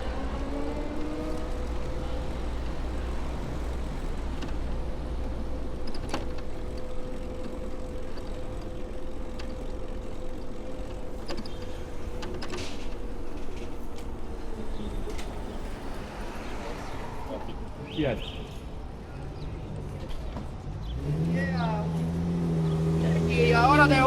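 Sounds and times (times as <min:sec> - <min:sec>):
constant hum: 0:00.0 - 0:21.0
street traffic rumble: 0:00.0 - 0:24.0.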